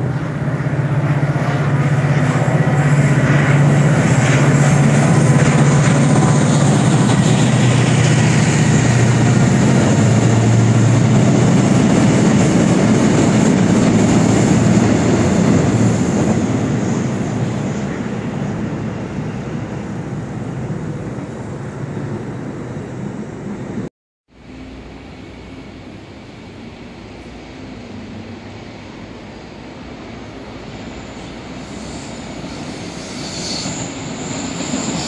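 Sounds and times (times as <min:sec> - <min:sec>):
train passing on tracks: 0:00.0 - 0:35.0.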